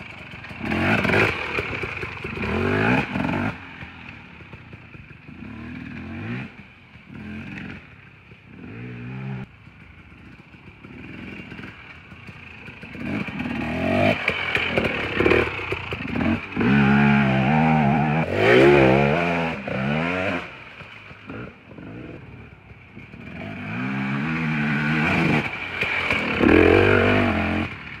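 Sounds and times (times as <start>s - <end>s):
dirt bike engine revving: 0.0s - 4.0s, 5.3s - 7.9s, 10.8s - 28.0s.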